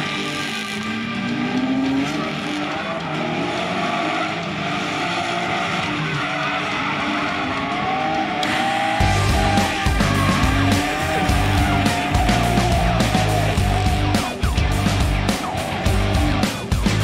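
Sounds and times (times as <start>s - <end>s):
car engines revving hard: 0.0s - 17.0s
tyres skidding and squealing: 0.0s - 17.0s.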